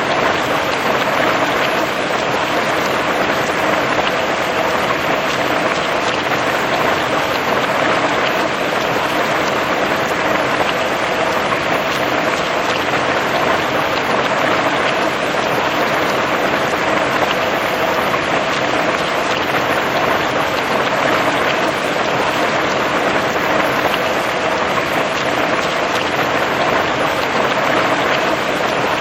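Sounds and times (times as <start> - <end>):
steady rain pattering: 0.0 - 29.0.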